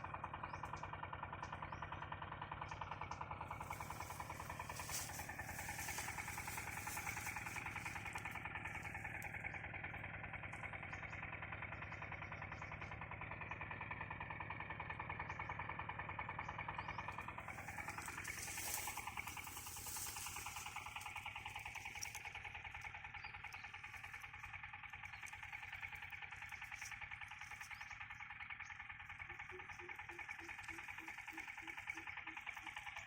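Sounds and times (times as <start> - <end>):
motor engine running: 0.0 - 33.0.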